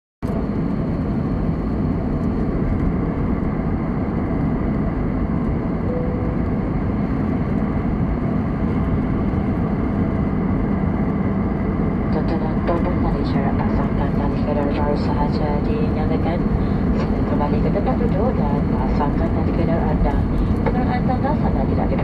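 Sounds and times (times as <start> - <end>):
airplane cabin noise in flight: 0.2 - 22.0.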